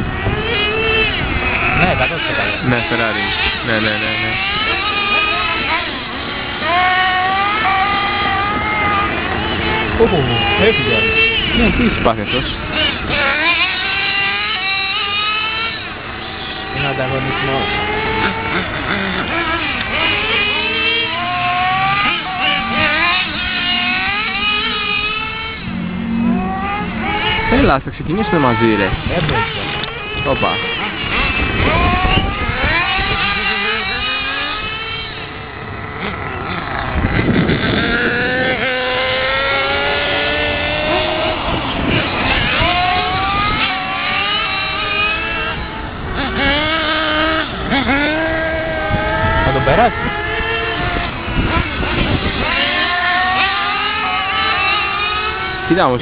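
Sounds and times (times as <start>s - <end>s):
model car motors whining: 0.0s - 56.0s.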